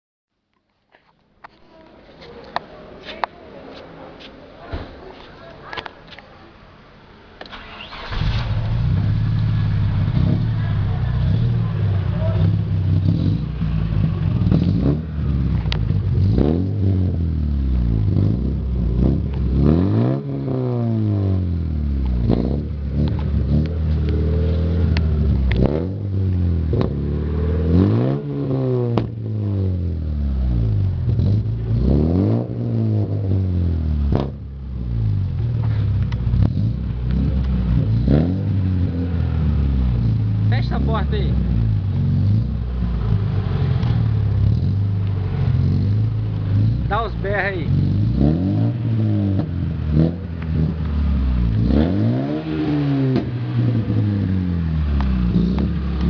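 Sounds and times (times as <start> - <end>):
sharp exhaust cracks: 7.4 - 56.0
car engine revving: 7.5 - 56.0.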